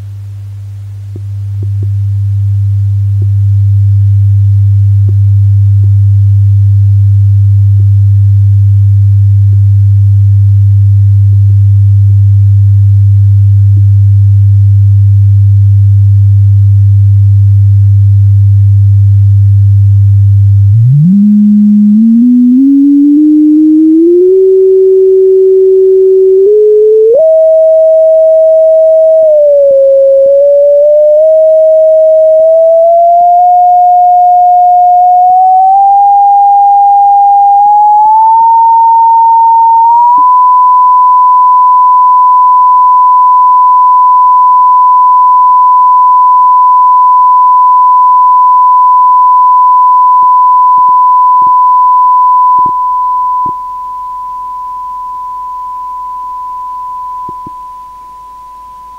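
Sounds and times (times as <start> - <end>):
sine test tone: 0.0 - 58.9.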